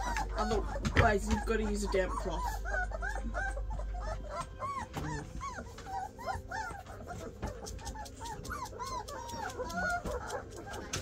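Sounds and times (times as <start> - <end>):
puppies whimpering and squeaking: 0.0 - 11.0.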